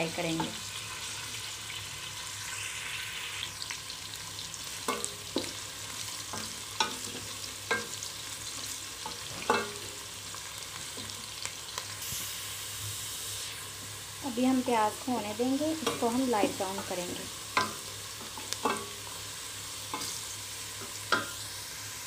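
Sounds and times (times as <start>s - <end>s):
onions sizzling in oil: 0.0s - 22.0s.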